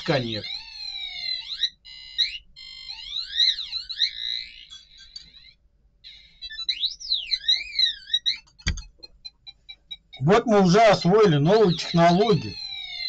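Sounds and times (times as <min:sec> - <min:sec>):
buzzer sliding electronic tones: 0:00.0 - 0:08.6, 0:09.3 - 0:13.0.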